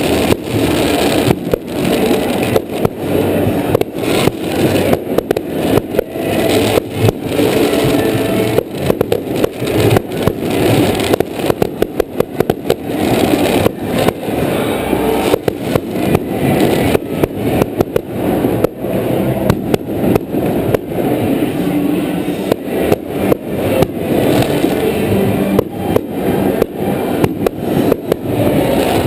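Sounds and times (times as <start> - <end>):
firework shells bursting: 0.0 - 14.5, 15.1 - 18.8, 22.4 - 29.0
continuous haze of noise: 0.0 - 29.0.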